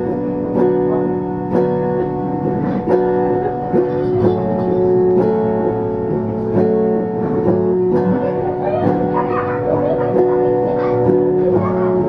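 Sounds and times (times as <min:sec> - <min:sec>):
autoharp strummed in chords: 0:00.0 - 0:12.0.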